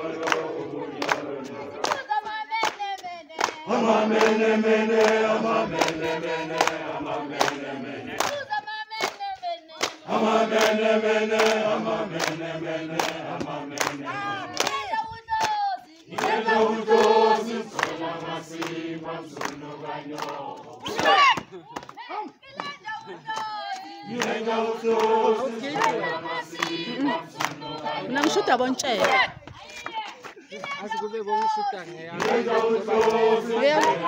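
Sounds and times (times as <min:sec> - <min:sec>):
crowd singing call-and-response: 0:00.0 - 0:21.5, 0:22.5 - 0:34.0.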